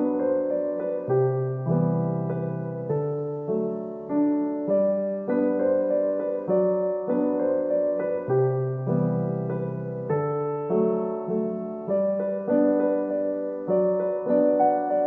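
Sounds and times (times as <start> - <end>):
soft piano tune: 0.0 - 15.0.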